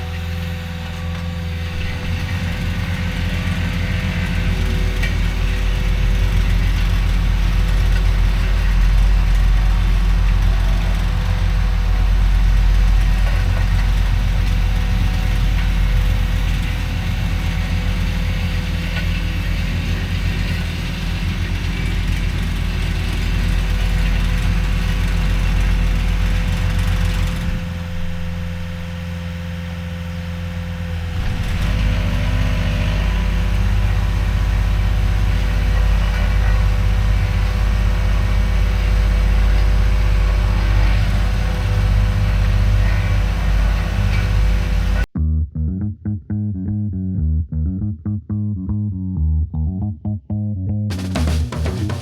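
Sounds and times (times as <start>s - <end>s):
diesel engine running: 0.0s - 45.4s, 50.9s - 52.0s.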